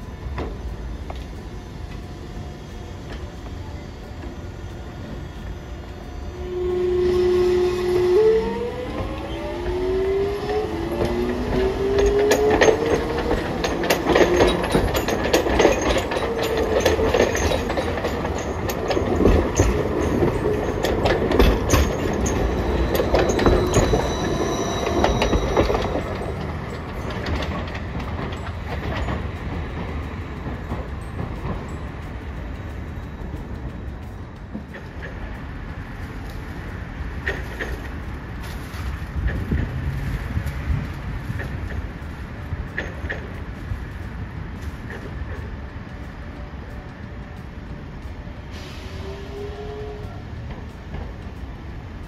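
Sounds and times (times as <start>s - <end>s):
tram electric motor whine: 0.0s - 52.0s
tram wheels clicking over rails: 0.0s - 52.0s.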